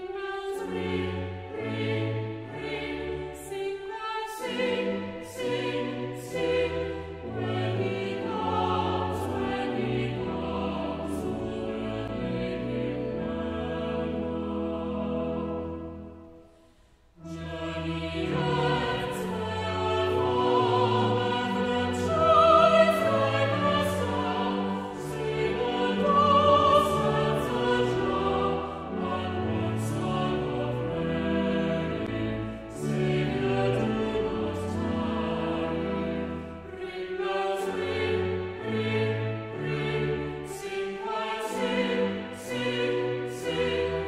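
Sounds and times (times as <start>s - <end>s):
choir singing in harmony: 0.0s - 44.0s.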